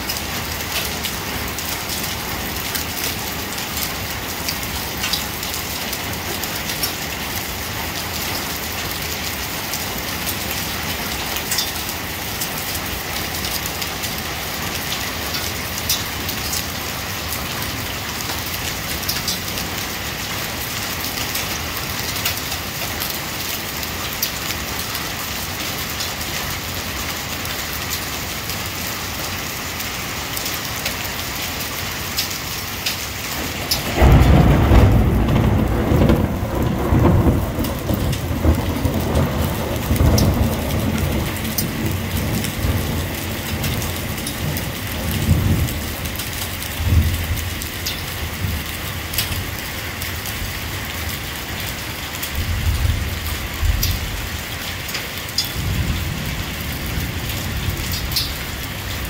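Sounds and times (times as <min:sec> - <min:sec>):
hailstones ticking: 0:00.0 - 0:59.0
steady rain hiss: 0:00.0 - 0:59.0.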